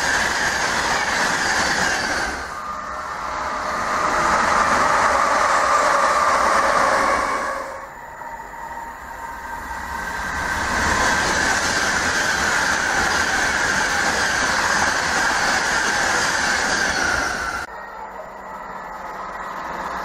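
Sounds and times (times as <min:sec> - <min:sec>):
train wheels rushing on rail: 0:00.0 - 0:17.7
high falling whine: 0:00.0 - 0:20.0.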